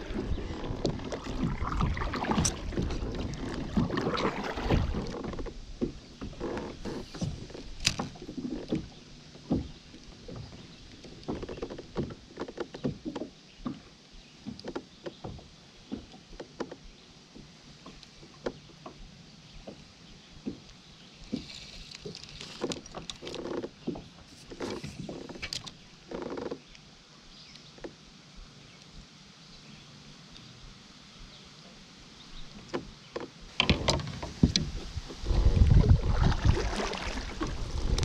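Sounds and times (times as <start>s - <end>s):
water and handling noise: 0.0s - 26.9s, 31.6s - 38.0s
light knocks and clicks on boat: 0.0s - 29.1s, 31.2s - 38.0s.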